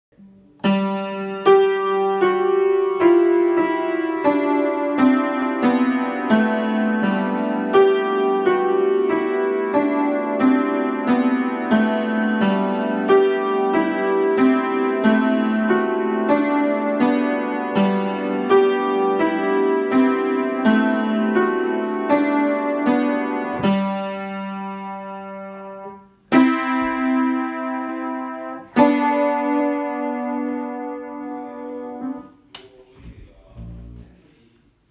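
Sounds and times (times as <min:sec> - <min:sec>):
piano playing: 0:00.1 - 0:32.5.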